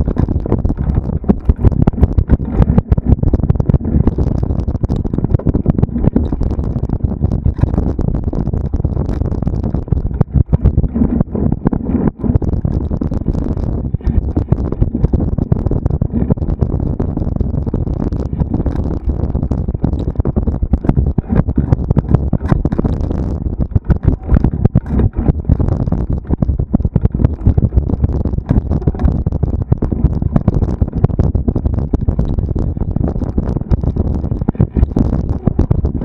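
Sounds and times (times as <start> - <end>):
knocks and rattles: 0.0 - 36.0
steady low rumble: 0.0 - 36.0
wind buffeting microphone: 0.0 - 36.0.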